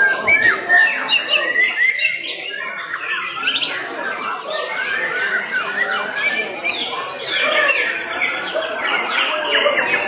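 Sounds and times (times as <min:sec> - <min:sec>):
birds singing: 0:00.0 - 0:10.0.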